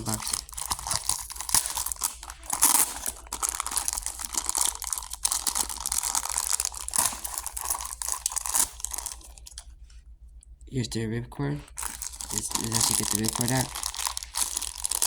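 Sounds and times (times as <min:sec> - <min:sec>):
packaging tearing and crinkling: 0:00.0 - 0:09.6, 0:11.8 - 0:15.0.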